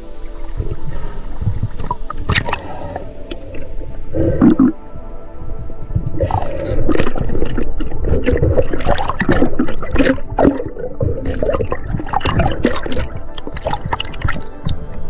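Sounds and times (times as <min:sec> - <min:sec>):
water gurgling and sloshing: 0:00.0 - 0:15.0.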